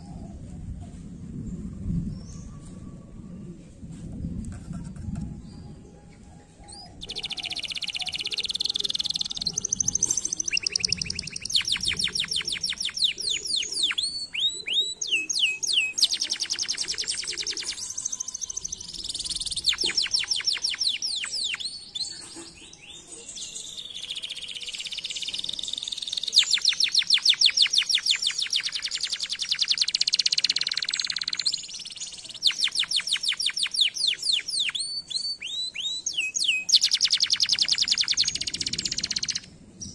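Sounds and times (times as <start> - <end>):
canary singing trills: 6.6 - 39.9.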